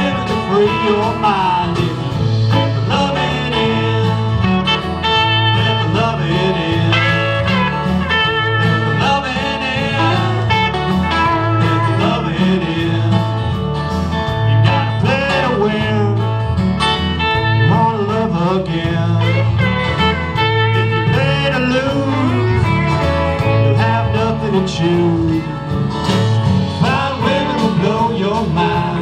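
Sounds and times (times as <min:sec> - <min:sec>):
bass guitar: 0:00.0 - 0:29.0
drums: 0:00.0 - 0:29.0
electric guitar: 0:00.0 - 0:29.0
strummed acoustic guitars: 0:00.0 - 0:29.0.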